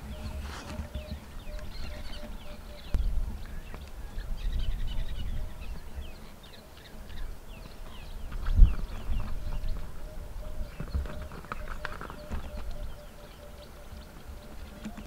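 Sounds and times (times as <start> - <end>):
birds chirping: 0.0 - 15.0
hooves thudding on dry ground: 0.0 - 15.0.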